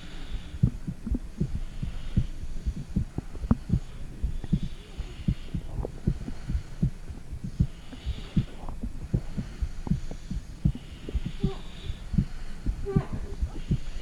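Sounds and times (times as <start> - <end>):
faint hiss: 0.0 - 14.0
heartbeat thumps: 0.0 - 14.0.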